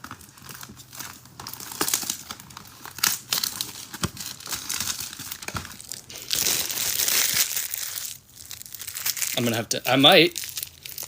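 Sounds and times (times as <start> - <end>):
cards rustling: 0.0 - 11.0
foil wrappers crinkling: 0.0 - 11.0.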